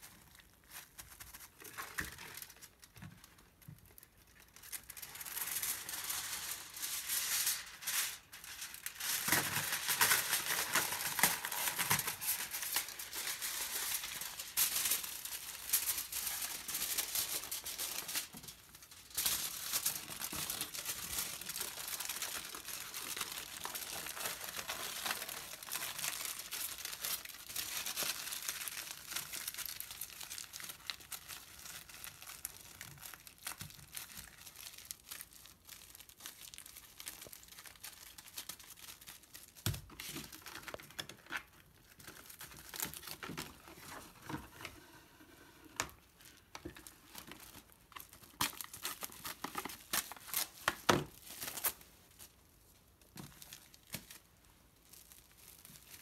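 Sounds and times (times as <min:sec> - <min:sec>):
aluminium foil crinkling: 0:00.0 - 0:44.8, 0:45.8 - 0:52.4, 0:53.0 - 0:56.0.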